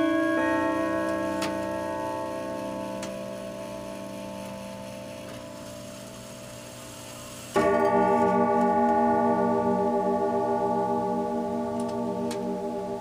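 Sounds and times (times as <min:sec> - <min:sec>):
clock chime rods striking: 0:00.0 - 0:06.7, 0:07.6 - 0:13.0.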